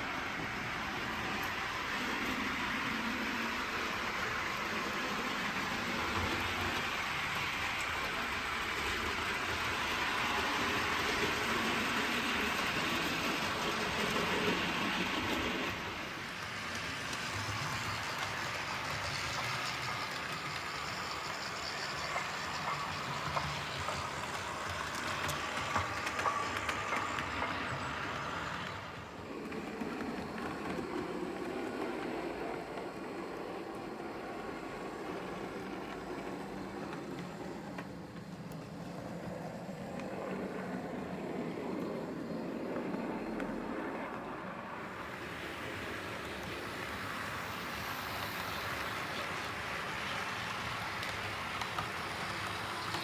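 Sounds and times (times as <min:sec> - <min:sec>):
model train running: 0:00.0 - 0:53.0.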